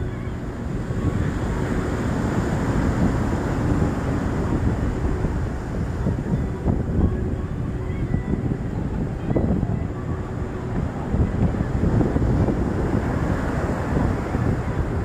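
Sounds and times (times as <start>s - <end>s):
sea waves on shore: 0.0s - 15.0s
wind buffeting microphone: 0.0s - 15.0s.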